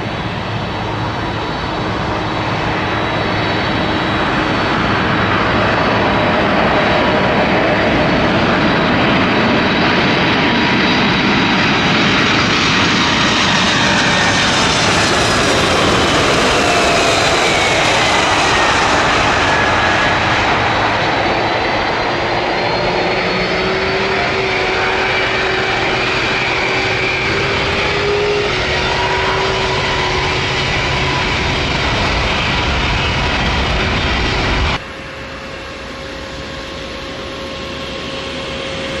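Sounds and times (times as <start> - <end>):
jet engines roaring and whining: 0.0 - 39.0.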